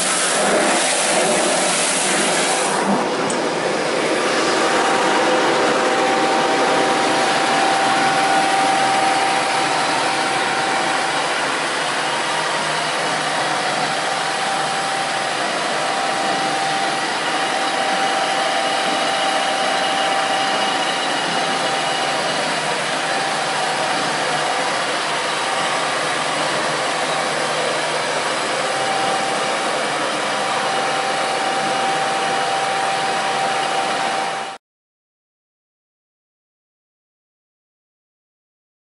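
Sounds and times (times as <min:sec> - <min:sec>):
blender motor whirring with whine: 0:00.0 - 0:34.6.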